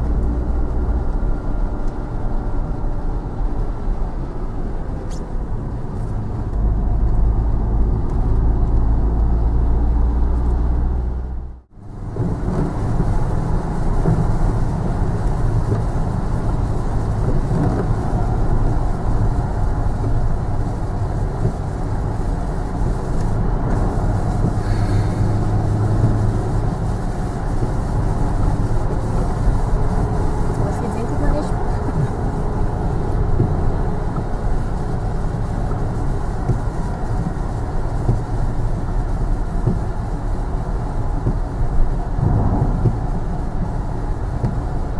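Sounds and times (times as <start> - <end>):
sports car engines running: 0.0 - 44.9.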